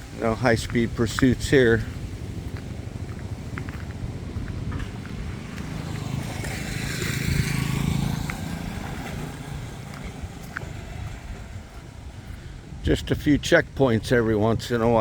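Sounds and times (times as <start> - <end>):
vehicle passing by: 0.0 - 12.8.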